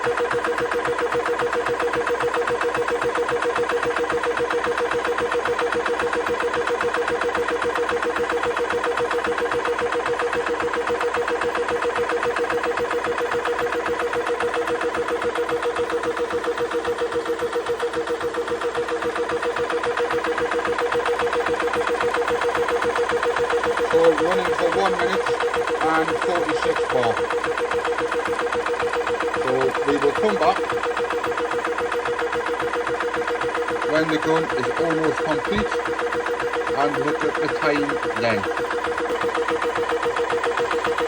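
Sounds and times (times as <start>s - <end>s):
air compressor pumping: 0.0s - 41.0s.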